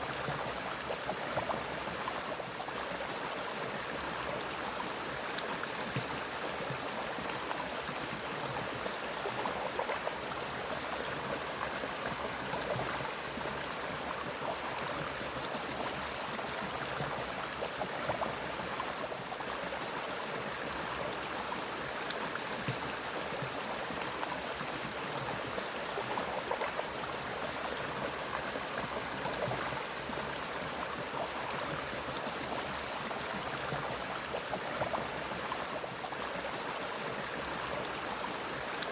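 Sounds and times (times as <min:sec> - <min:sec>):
stream rushing and splashing: 0:00.0 - 0:38.9.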